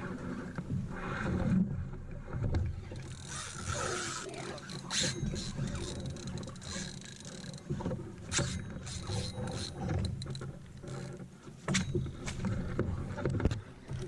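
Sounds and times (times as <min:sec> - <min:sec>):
low boat rumble: 0:00.0 - 0:14.0.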